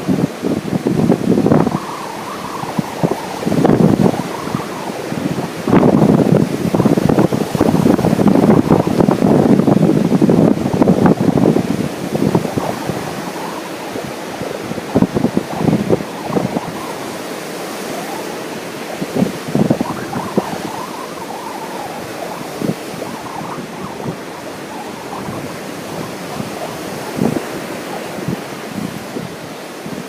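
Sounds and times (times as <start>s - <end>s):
ocean surf washing: 0.0s - 30.0s
wind buffeting microphone: 0.0s - 30.0s.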